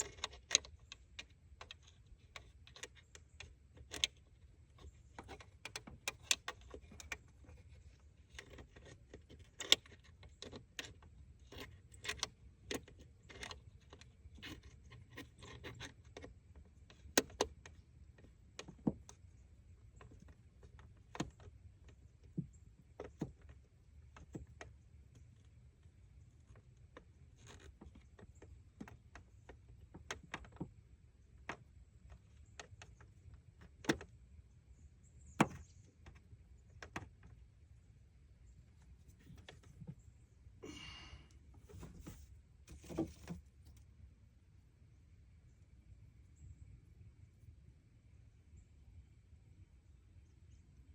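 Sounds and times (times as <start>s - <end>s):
faint low hum: 0.0s - 50.9s.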